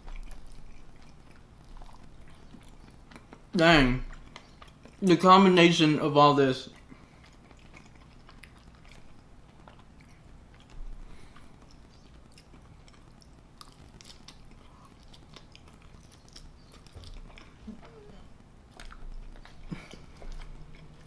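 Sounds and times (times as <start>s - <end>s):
person chewing with mouth clicks: 0.0s - 5.2s, 6.6s - 21.0s.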